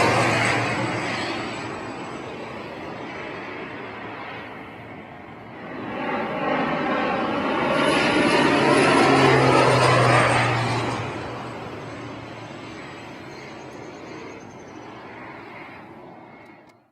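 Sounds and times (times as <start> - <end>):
propeller airplane passing overhead: 0.0 - 16.9.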